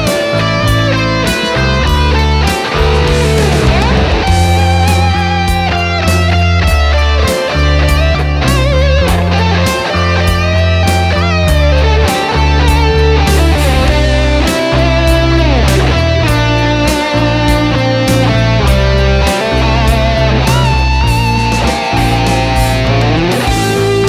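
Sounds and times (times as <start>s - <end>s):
bass and drums backing track: 0.0s - 24.0s
electric guitar lead melody: 0.0s - 24.0s.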